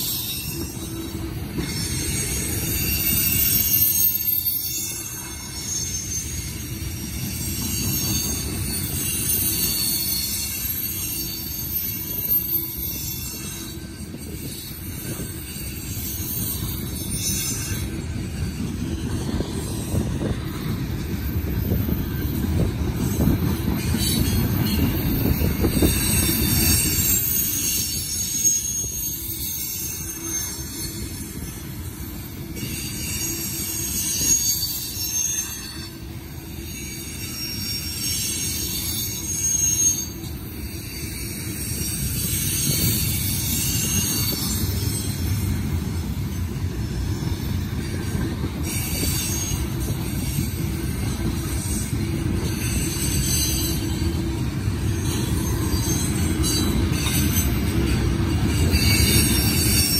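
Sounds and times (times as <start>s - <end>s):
high-pitched wheel squeal: 0.0s - 59.9s
train wheels rumbling on rail: 0.0s - 59.9s.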